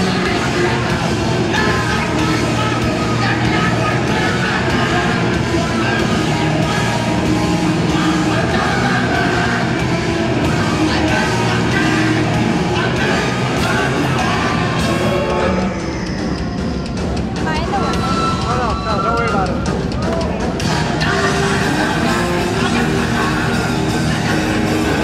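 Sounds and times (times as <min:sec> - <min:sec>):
distorted electric guitars: 0:00.0 - 0:25.0
pounding drums: 0:00.0 - 0:25.0.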